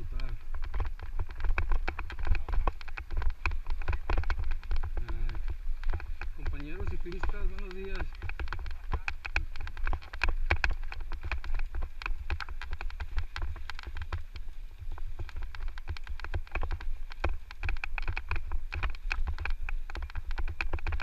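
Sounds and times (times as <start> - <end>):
bike chain and frame rattling: 0.0 - 21.0
wind rumble on microphone: 0.0 - 21.0.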